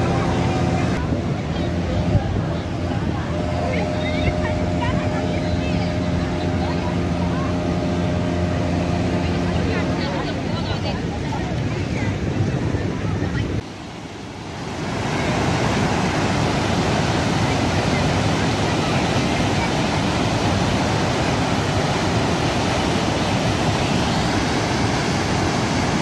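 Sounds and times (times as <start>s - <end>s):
floodwater rushing over spillway: 0.0s - 26.0s.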